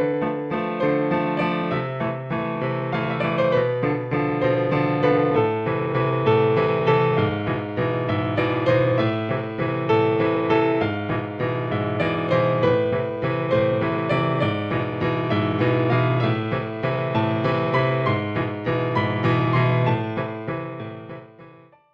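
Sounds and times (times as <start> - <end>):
keyboard notes: 0.0 - 21.8.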